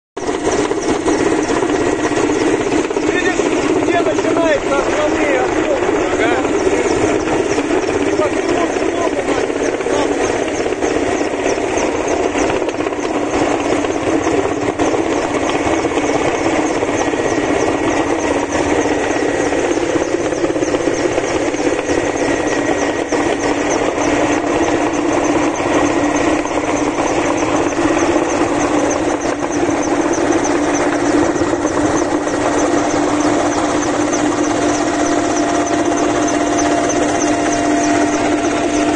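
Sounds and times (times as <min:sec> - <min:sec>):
helicopter engine and rotor drone: 0:00.2 - 0:38.9.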